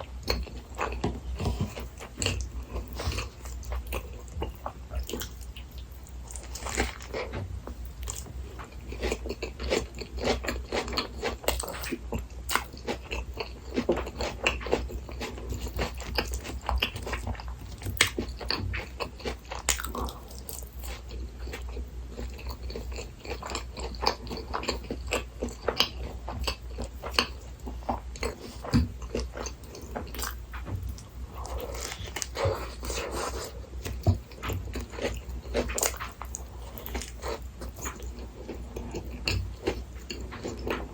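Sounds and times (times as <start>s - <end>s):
close chewing and biting: 0.1s - 40.9s.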